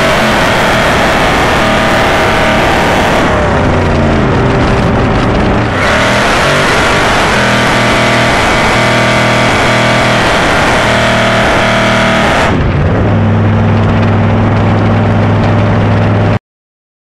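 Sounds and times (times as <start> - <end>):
engine revving hard: 0.0 - 14.0.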